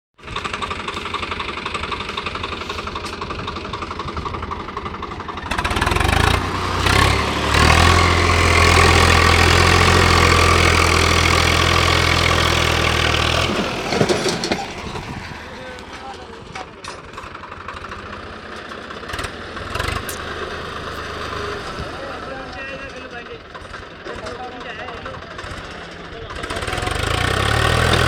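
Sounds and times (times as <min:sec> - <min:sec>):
diesel tractor engine: 0:00.2 - 0:28.0.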